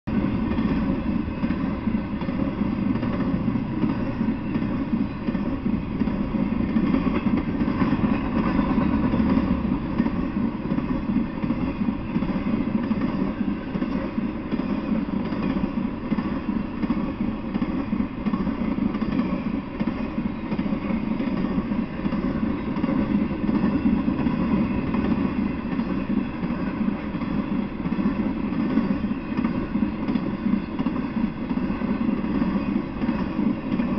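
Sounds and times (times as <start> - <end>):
train wheels on rails: 0.0 - 33.9.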